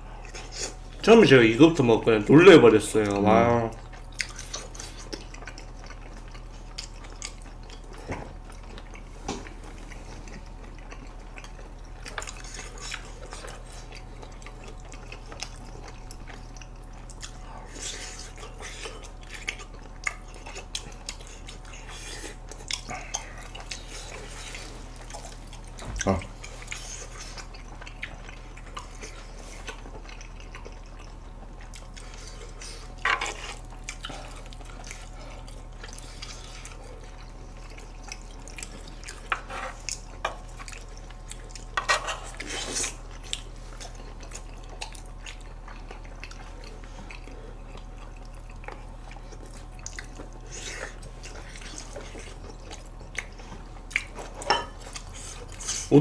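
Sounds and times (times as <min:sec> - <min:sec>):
low electrical hum: 0:00.0 - 0:56.0
wet chewing and mouth smacks: 0:03.0 - 0:55.9.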